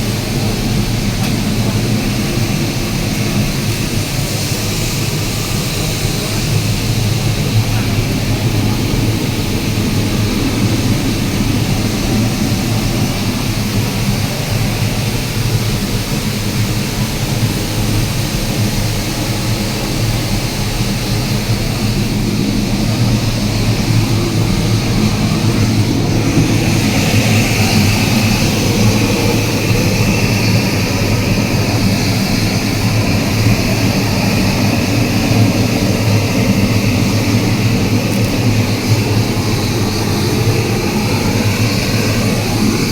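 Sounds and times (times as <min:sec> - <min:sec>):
bright hiss: 0:00.0 - 0:42.9
furnace roaring: 0:00.0 - 0:42.9.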